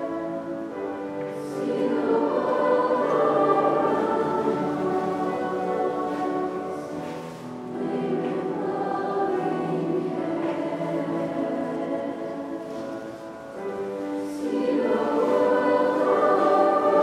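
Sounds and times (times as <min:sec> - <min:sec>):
mixed choir singing chords: 0:00.0 - 0:17.0.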